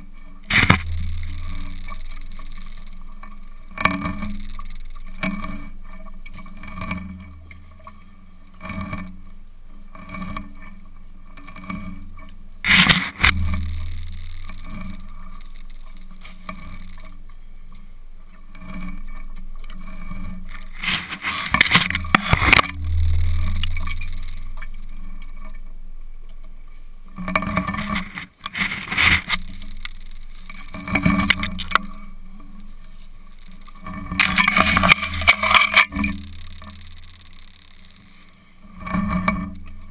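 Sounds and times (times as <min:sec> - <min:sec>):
low hum: 0:00.3 - 0:10.4, 0:11.9 - 0:39.9.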